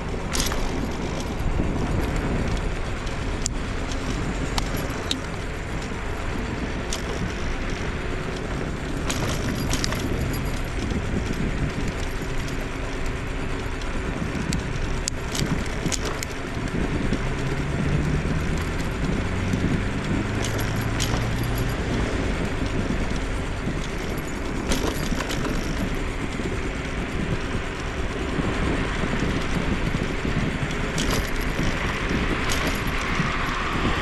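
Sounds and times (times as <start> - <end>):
scooter rattling over bumps: 0.0 - 34.0
wheels rumbling on road: 0.0 - 34.0
wind: 0.0 - 34.0.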